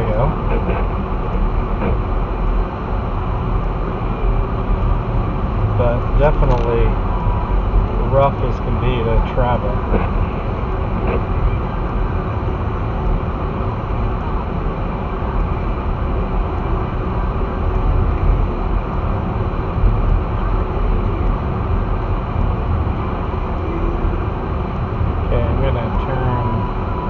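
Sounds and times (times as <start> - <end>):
vehicle driving on snow: 0.0 - 27.0.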